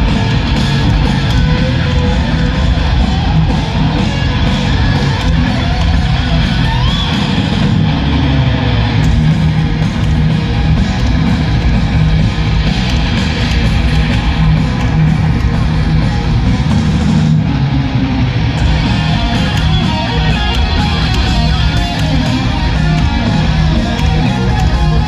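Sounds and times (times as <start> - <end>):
heavy metal band playing live: 0.0 - 25.0.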